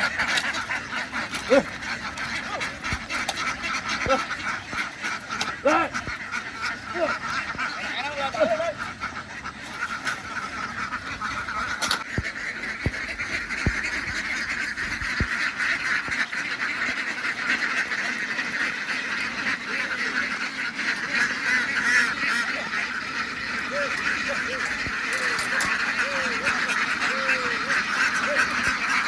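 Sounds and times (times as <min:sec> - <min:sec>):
flock of ducks quacking: 0:00.0 - 0:29.0.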